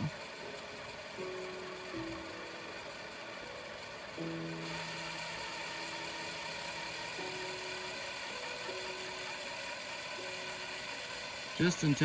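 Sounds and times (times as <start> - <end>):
electric drill drilling metal: 0.0 - 12.0.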